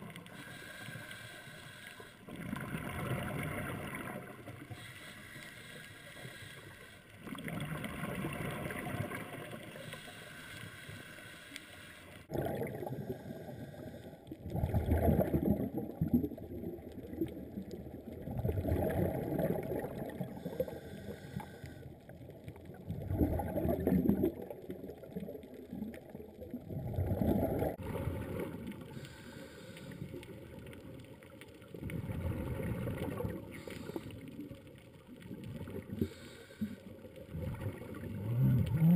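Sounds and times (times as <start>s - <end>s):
underwater bubbles gurgling: 0.0s - 38.9s.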